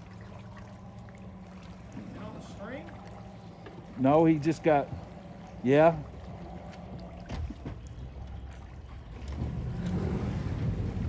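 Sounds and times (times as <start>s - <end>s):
boat engine drone: 0.0s - 11.0s
knocks and splashes: 0.0s - 11.0s.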